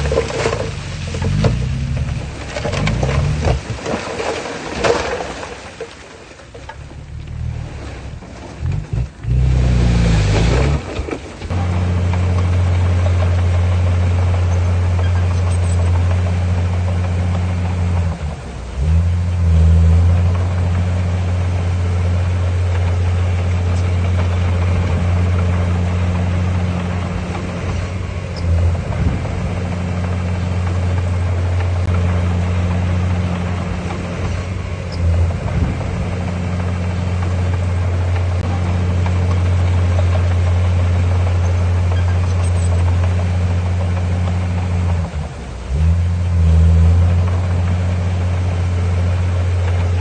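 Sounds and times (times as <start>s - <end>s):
heavy diesel engine droning: 0.0s - 50.0s.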